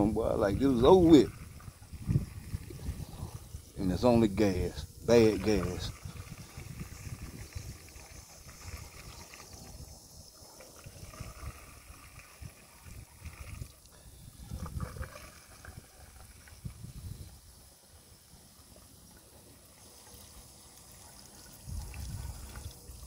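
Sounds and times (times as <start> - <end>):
wind rumble on microphone: 0.0 - 17.6, 21.6 - 23.0
gasoline pouring and trickling: 0.0 - 23.0.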